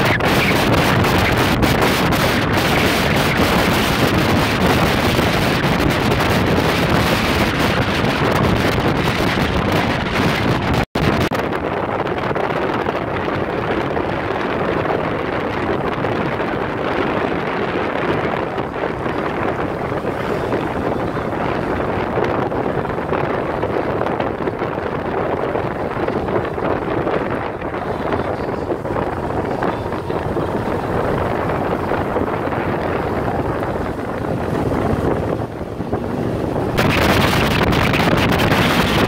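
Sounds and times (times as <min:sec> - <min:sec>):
wind rushing over microphone: 0:00.0 - 0:39.0.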